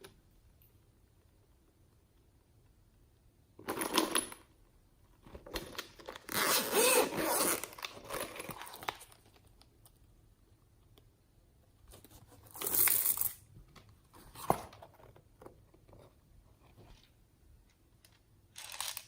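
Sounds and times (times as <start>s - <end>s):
crinkling and rustling by hands: 3.6s - 19.0s.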